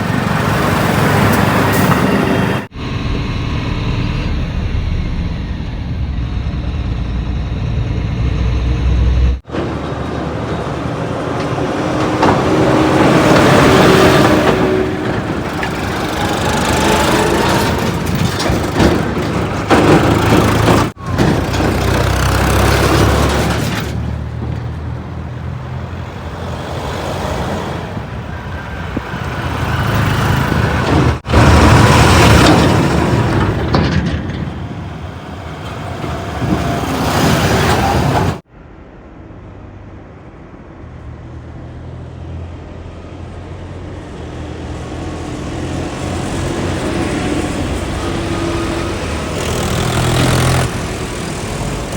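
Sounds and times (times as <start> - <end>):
heavy diesel engines revving: 0.0 - 38.5, 41.7 - 51.9.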